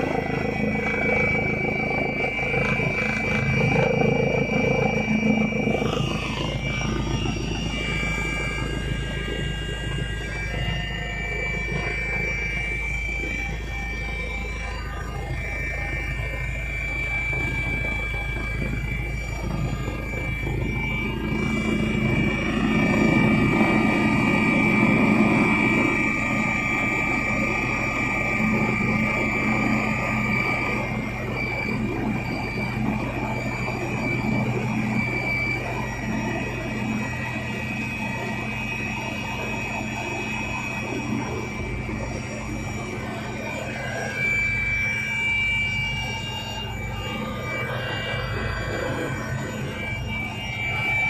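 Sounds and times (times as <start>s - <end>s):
helicopter turbine whine: 0.0s - 51.0s
rotor and engine rumble: 0.0s - 51.0s.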